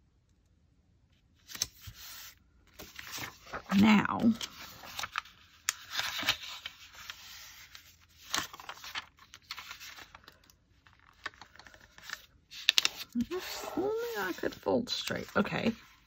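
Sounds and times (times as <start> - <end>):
paper crackling: 1.4 - 16.0
paper rustling and tearing: 1.4 - 16.0.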